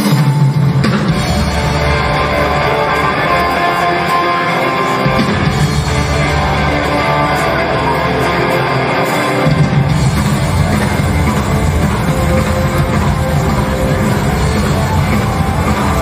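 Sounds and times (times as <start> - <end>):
drums: 0.0 - 16.0
electric guitar: 0.0 - 16.0.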